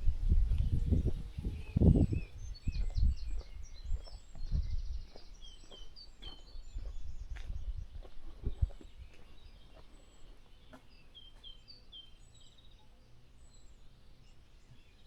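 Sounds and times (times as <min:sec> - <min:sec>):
small birds chirping and trilling: 0:00.1 - 0:15.0.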